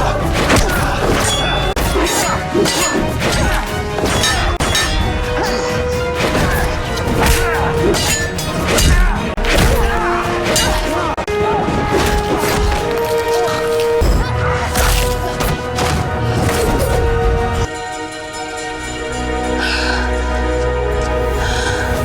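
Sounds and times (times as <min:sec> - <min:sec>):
dramatic background music: 0:00.0 - 0:22.0.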